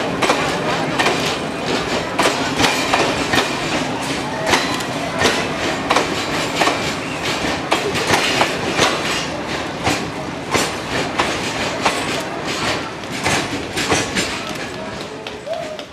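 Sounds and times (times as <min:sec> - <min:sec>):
train rumble: 0:00.0 - 0:15.9
train wheels clattering over rail joints: 0:00.0 - 0:15.9.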